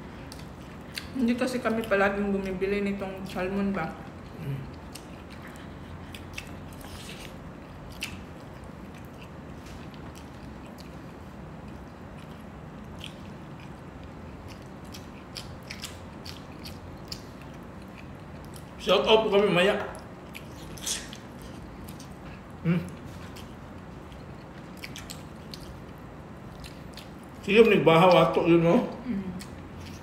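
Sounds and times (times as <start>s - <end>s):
steady low hum: 0.0s - 30.0s
close-up chewing: 0.1s - 2.5s, 4.2s - 18.8s, 19.9s - 27.4s.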